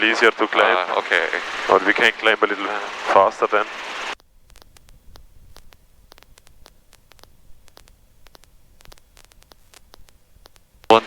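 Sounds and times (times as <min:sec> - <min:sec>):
intercom hiss and crackling clicks: 0:00.0 - 0:11.0.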